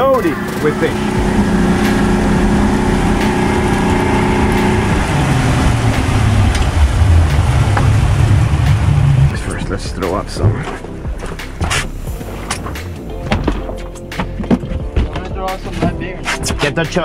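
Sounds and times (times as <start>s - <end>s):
motorboat engine running: 0.0s - 16.0s.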